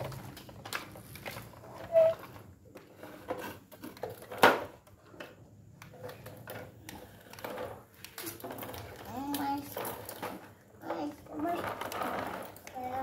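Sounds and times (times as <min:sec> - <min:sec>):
plastic toy trucks rattling on tile: 0:00.0 - 0:13.0.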